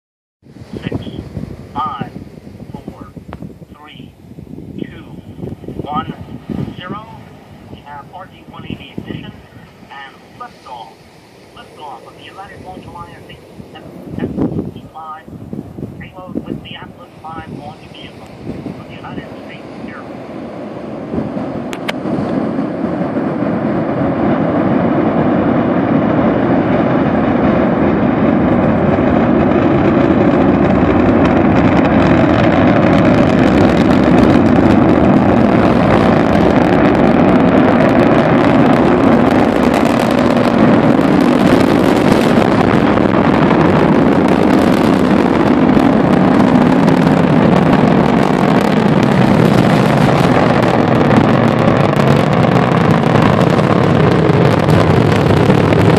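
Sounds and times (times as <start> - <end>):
rocket engine rumble: 0.4 - 55.9.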